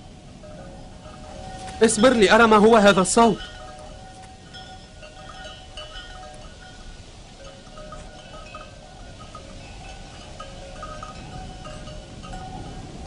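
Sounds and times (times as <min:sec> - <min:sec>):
small metal bells jangling: 0:00.0 - 0:13.0.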